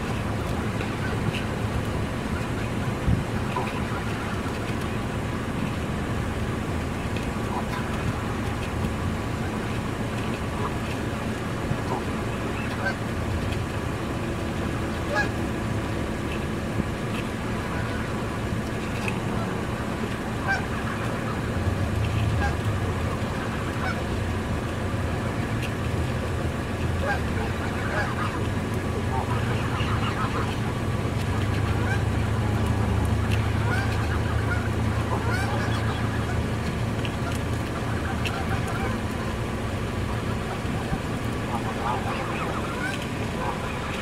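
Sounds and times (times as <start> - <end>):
geese honking softly: 0.0 - 44.0.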